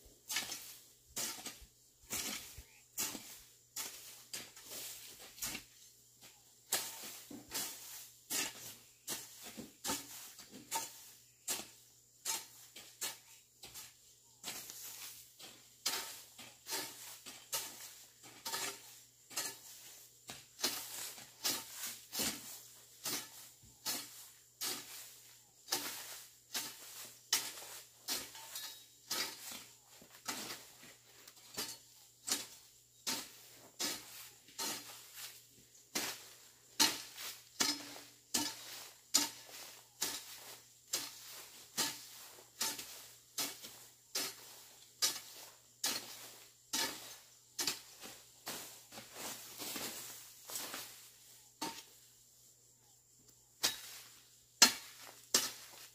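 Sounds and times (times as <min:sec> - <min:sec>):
hoe chopping and scraping soil: 0:00.0 - 0:52.3, 0:53.2 - 0:55.9.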